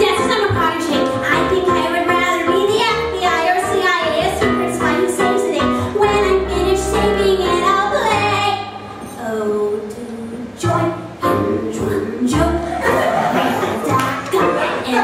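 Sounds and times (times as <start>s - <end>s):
keyboard piano accompaniment: 0.0s - 15.0s
woman singing: 0.0s - 15.0s.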